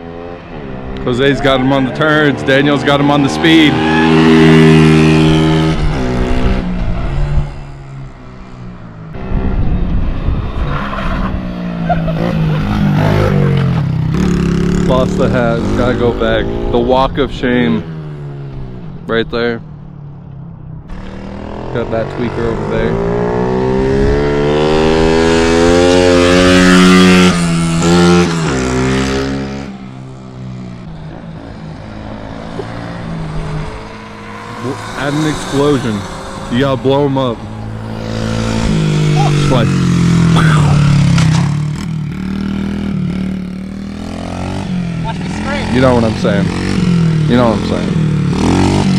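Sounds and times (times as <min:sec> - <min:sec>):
mini bike engine revving: 0:00.0 - 0:07.7, 0:10.2 - 0:16.8, 0:20.9 - 0:48.9.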